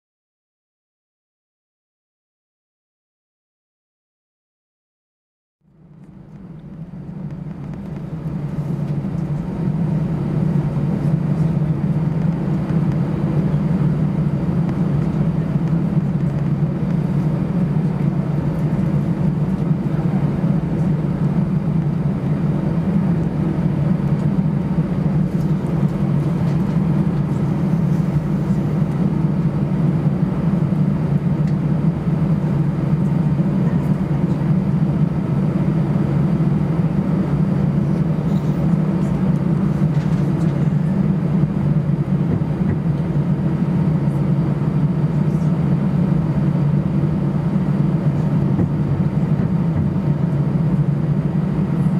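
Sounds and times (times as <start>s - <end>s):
aircraft rolling rumble: 5.6s - 51.9s
jet engines droning: 5.7s - 51.9s.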